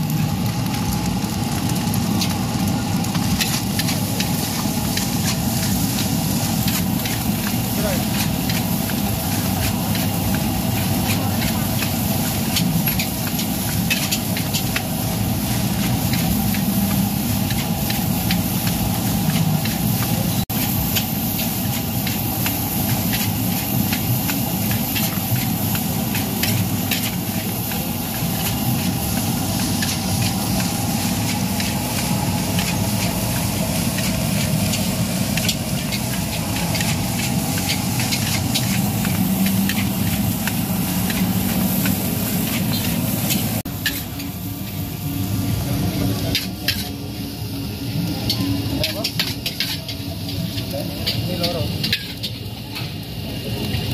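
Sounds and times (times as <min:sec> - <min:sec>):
food sizzling: 0:00.0 - 0:53.9
metal spatula scraping a wok: 0:03.2 - 0:44.4, 0:48.3 - 0:52.5.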